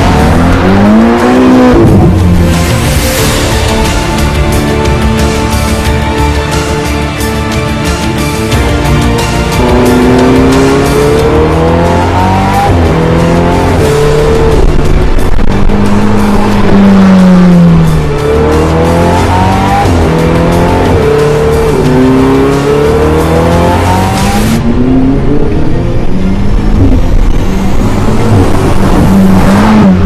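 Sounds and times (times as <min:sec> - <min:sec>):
sports car accelerating: 0:00.0 - 0:03.8, 0:09.2 - 0:30.0.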